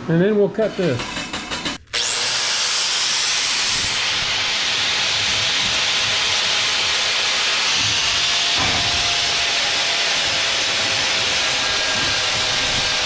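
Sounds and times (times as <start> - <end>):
angle grinder grinding steel: 0.6 - 13.0.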